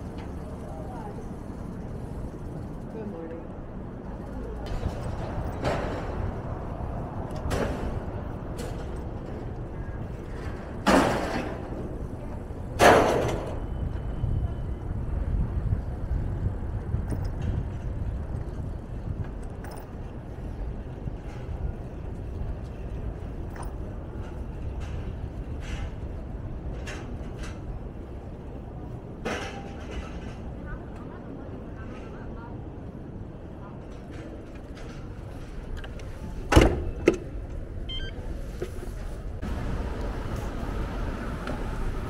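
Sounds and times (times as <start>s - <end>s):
street traffic rumble: 0.0s - 42.0s.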